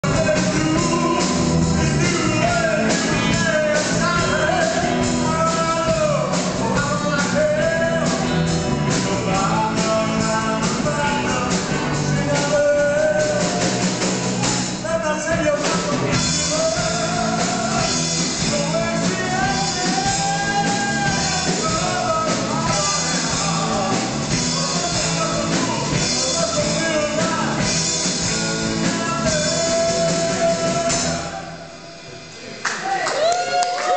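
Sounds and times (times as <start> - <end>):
live band playing dance tune: 0.0 - 33.9.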